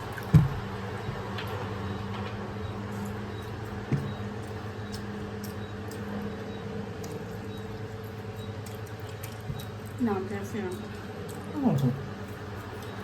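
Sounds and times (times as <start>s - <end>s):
low buzzing hum: 0.0s - 13.0s.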